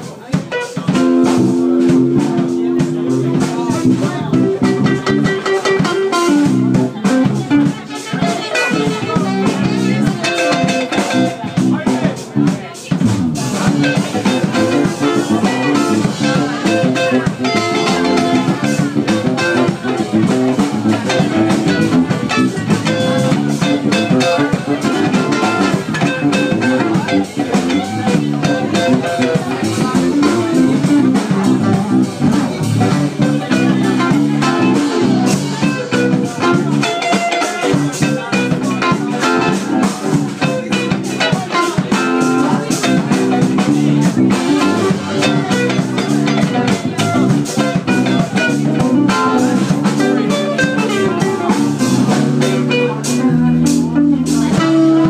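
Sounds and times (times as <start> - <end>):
guitars: 0.0 - 55.0
live band playing: 0.0 - 55.0.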